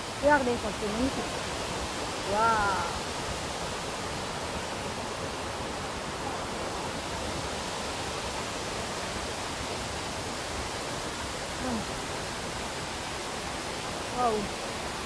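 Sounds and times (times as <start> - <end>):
rapids of rocky stream: 0.0 - 15.0
waterfall rushing: 0.0 - 15.0.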